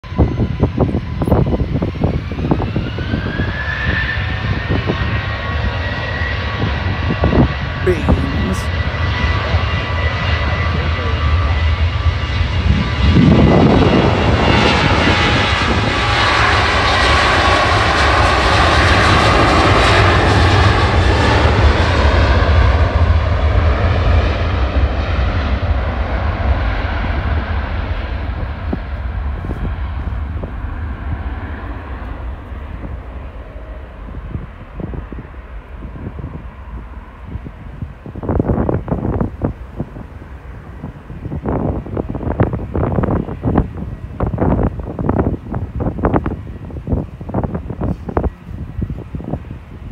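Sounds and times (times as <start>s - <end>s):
jet engines roaring at takeoff: 0.0s - 49.9s.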